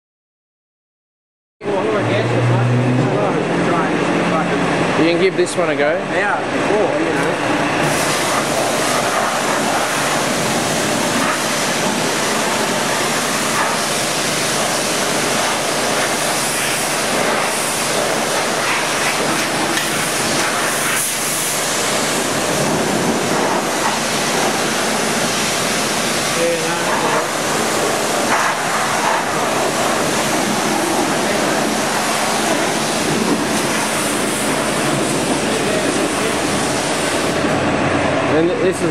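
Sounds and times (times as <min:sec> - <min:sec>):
pressure washer spraying water: 0:01.8 - 0:38.4.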